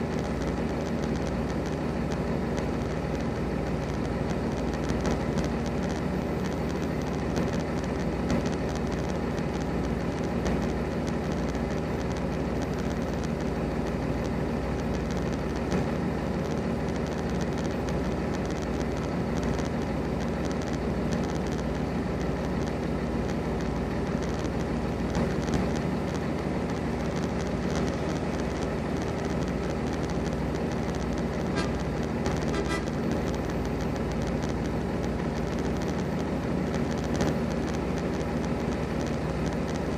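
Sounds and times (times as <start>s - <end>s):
faint ticks: 0.0s - 39.9s.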